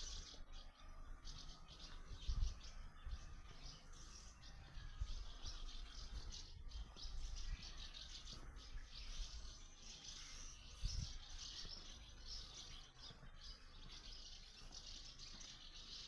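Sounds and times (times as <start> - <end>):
swallows twittering: 0.0 - 16.0.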